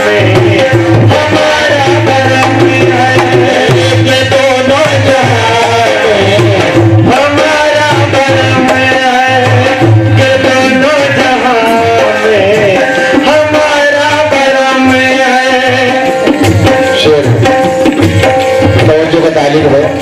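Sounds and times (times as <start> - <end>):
man singing: 0.0 - 17.7
hand drums beat: 0.0 - 20.0.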